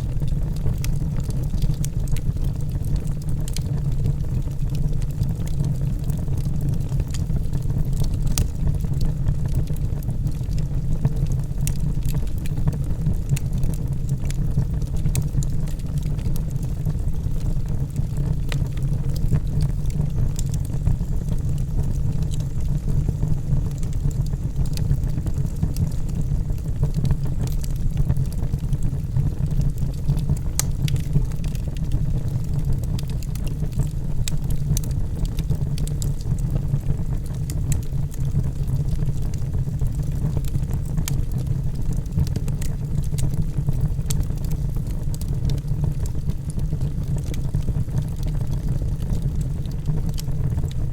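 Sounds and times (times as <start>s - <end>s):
burning logs rumbling: 0.0s - 50.9s
fire crackles and pops: 0.0s - 50.9s.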